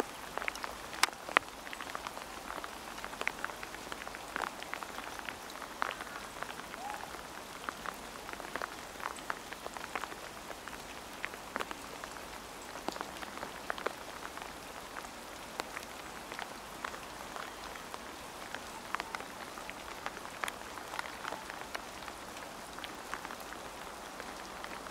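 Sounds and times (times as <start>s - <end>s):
rain pattering: 0.0s - 24.9s.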